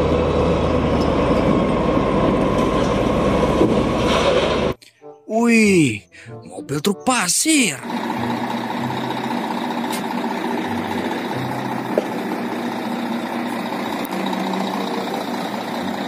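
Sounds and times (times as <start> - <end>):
diesel engine running: 0.0 - 4.8, 6.2 - 16.0.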